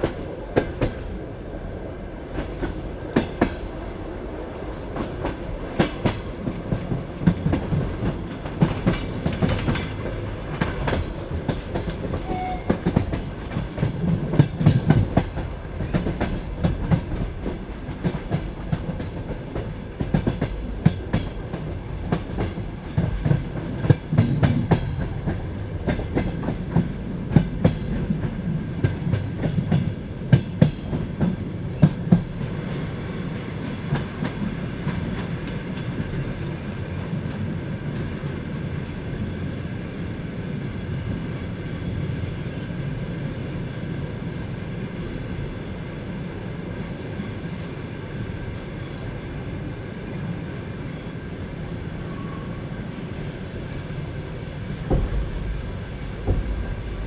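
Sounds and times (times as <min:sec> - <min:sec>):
train carriage rumble: 0:00.0 - 0:57.0.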